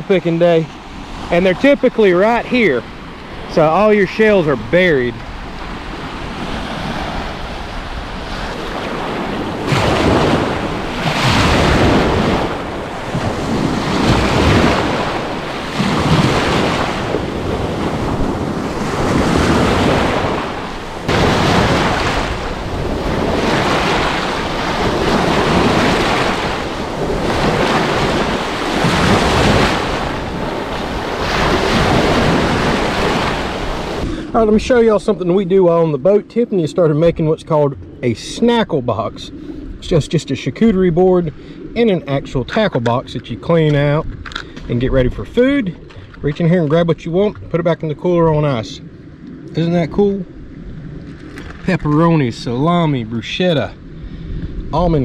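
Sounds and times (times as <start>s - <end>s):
sea surf washing on beach: 0.0s - 55.0s
wind buffeting microphone: 0.0s - 55.0s.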